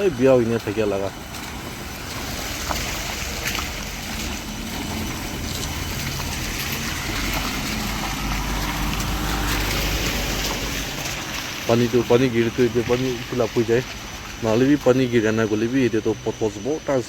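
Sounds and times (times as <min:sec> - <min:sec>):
rush of water: 0:00.0 - 0:17.0
vehicle engine running: 0:00.0 - 0:17.0.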